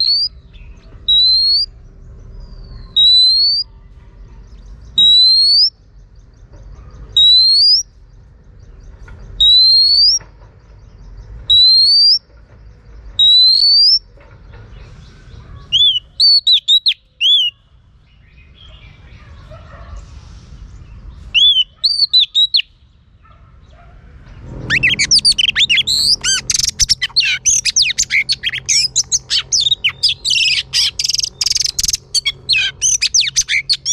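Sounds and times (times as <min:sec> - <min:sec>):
bird calling and singing: 0:00.0 - 0:33.9.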